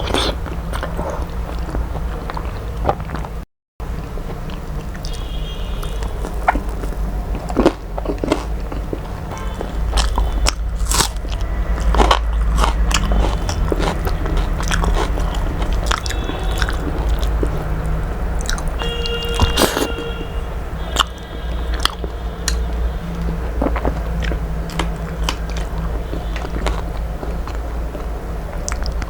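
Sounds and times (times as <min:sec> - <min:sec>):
person chewing crunchy food: 0:00.0 - 0:29.0
steady low hum: 0:00.0 - 0:29.0.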